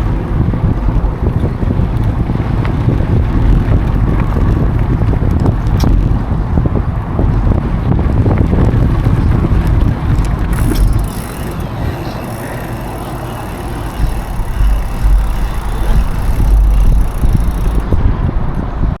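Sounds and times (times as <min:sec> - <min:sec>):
bike rattling: 0:00.0 - 0:07.0, 0:07.7 - 0:18.2
bike tyres rolling: 0:00.0 - 0:18.0
wind buffeting microphone: 0:00.0 - 0:19.0.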